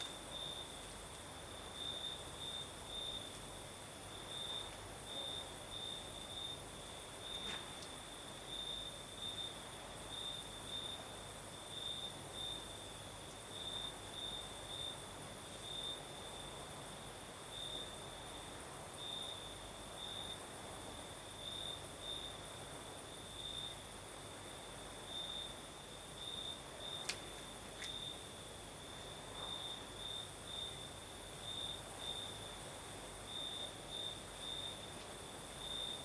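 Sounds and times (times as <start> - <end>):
crickets trilling: 0.0 - 16.6, 17.4 - 36.0
night breeze hiss: 0.0 - 36.0.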